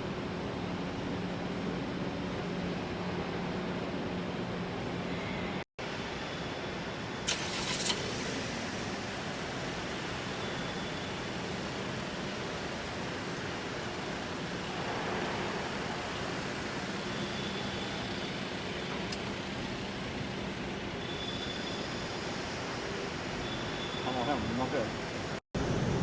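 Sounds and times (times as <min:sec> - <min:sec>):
factory machinery noise: 0:00.0 - 0:26.0.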